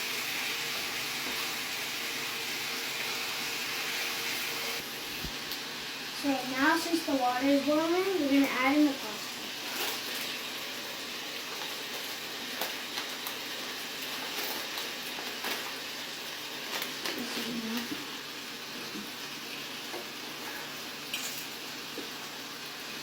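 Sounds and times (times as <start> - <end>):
bacon sizzling in a frying pan: 0.0 - 23.0.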